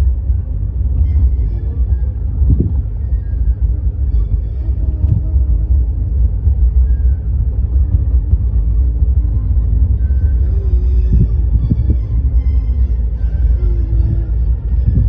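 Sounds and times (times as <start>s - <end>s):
faint music: 0.0s - 15.0s
low rumble: 0.0s - 15.0s.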